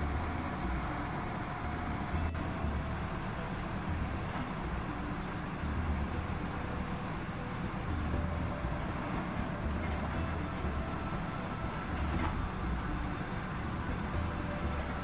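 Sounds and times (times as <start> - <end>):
faint high whine falling in pitch: 0.0 - 15.0
heavy vehicle engines idling: 0.0 - 15.0.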